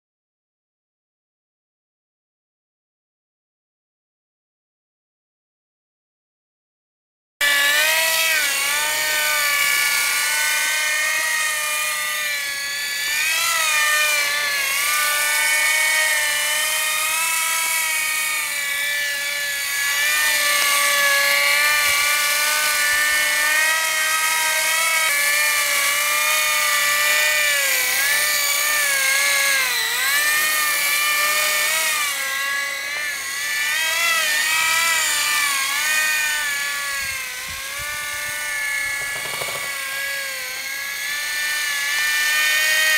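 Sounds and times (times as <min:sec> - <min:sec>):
rc helicopter motor whine: 0:07.4 - 0:42.9.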